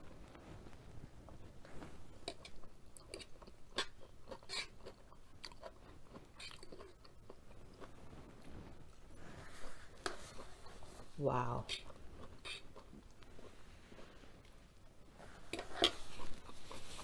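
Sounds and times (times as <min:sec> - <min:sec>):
chewing noodles: 0:02.0 - 0:14.6, 0:15.4 - 0:17.0.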